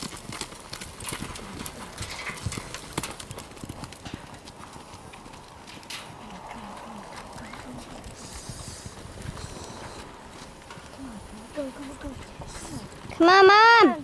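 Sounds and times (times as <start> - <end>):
horse hooves galloping on dirt: 0.0 - 14.0.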